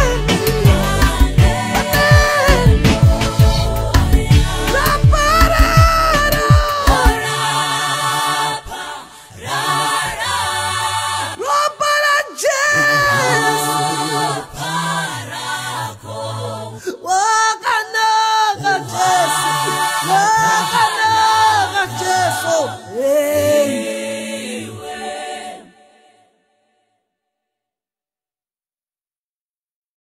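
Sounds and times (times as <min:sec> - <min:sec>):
choir singing in harmony: 0:00.0 - 0:26.9.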